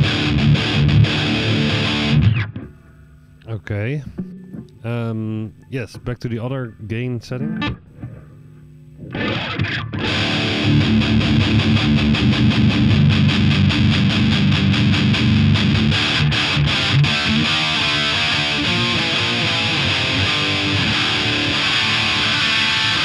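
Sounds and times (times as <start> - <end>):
distorted electric guitar: 0.0 - 3.1, 7.3 - 23.0
amp hum: 0.0 - 23.0.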